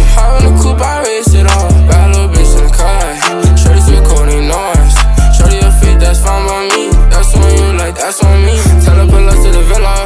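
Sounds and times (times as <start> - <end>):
background music with deep bass: 0.0 - 10.0
melodic line: 0.0 - 10.0.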